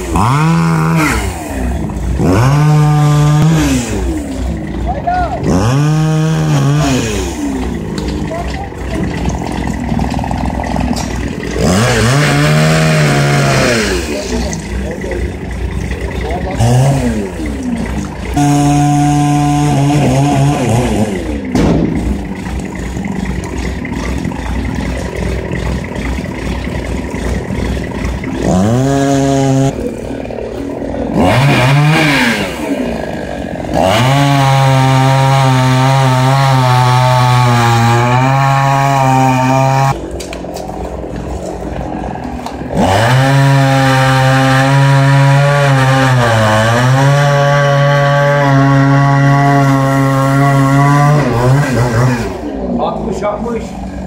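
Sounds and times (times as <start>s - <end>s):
chainsaw cutting logs: 0.0s - 54.0s.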